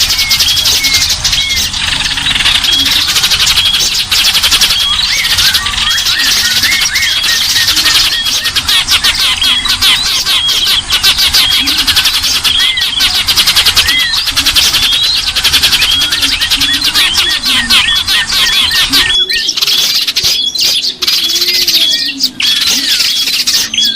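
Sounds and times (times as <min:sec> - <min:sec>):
songbirds chattering and trilling: 0:00.0 - 0:23.9.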